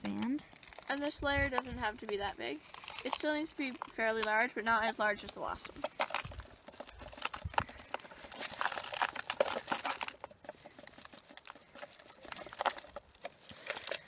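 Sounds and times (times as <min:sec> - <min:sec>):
gravel clattering against plastic: 0:00.0 - 0:14.0
plastic bag crinkling: 0:00.0 - 0:14.0.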